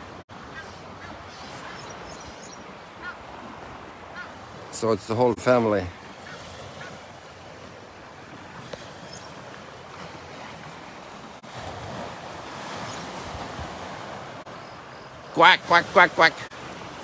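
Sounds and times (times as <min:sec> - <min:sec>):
small waves washing on shore: 0:00.0 - 0:17.0
wind: 0:00.0 - 0:17.0.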